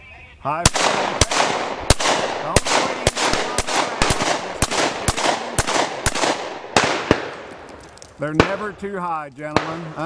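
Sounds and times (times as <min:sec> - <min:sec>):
shotgun shots echoing: 0:00.6 - 0:10.0.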